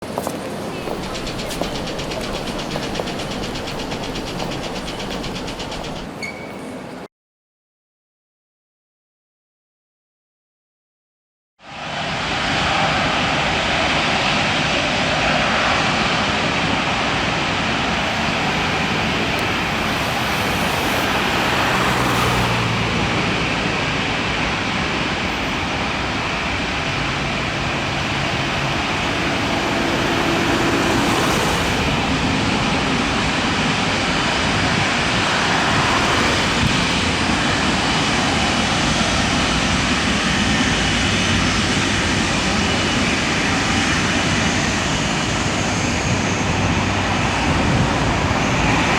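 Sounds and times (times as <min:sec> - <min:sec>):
jet engines running: 0:00.1 - 0:06.2, 0:11.7 - 0:48.9.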